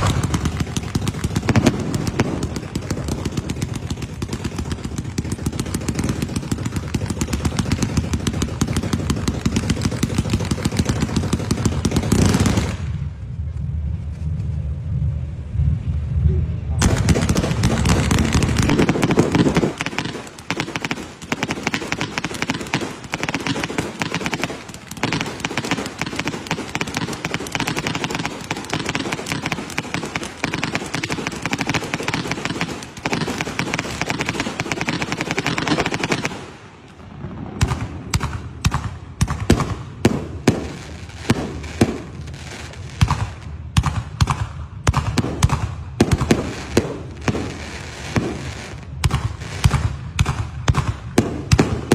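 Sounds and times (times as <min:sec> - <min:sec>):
sharp firework bangs: 0:00.0 - 0:13.2, 0:16.8 - 0:51.9
fireworks crackling: 0:00.0 - 0:51.9.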